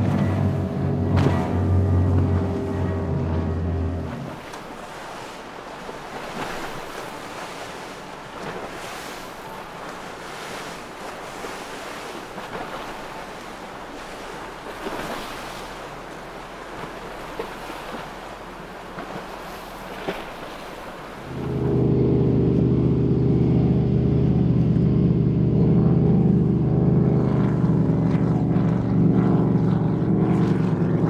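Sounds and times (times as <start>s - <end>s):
choppy waves and spray: 0.0s - 31.0s
water splashes: 0.0s - 31.0s.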